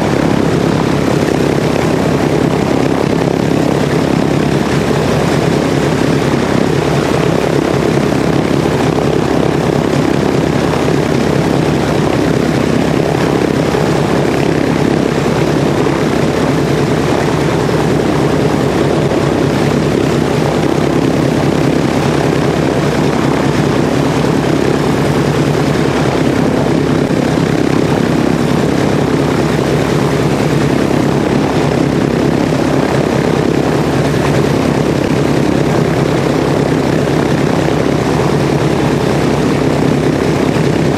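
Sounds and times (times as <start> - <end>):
radial aircraft engine running: 0.0 - 40.9.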